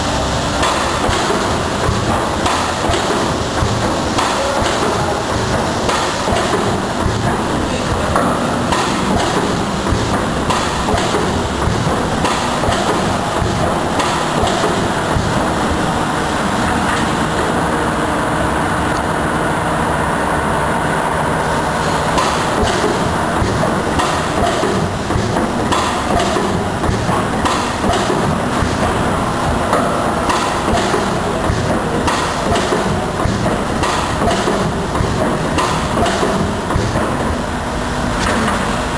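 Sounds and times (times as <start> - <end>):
steady mechanical clatter: 0.0 - 38.9.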